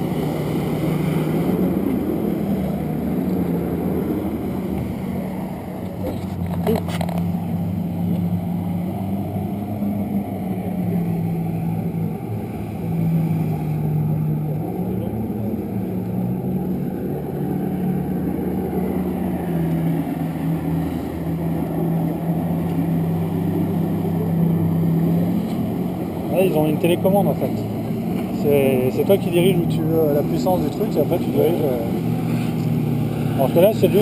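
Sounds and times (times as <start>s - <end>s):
jet ski engine running: 0.0s - 34.0s.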